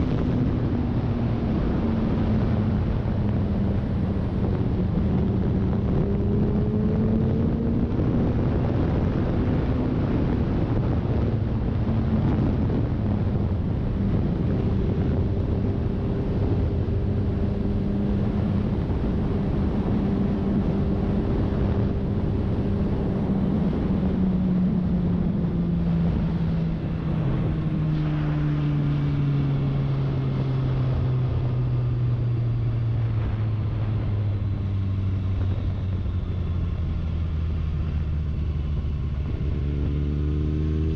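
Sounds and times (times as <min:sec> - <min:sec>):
wind rush over microphone: 0:00.0 - 0:40.9.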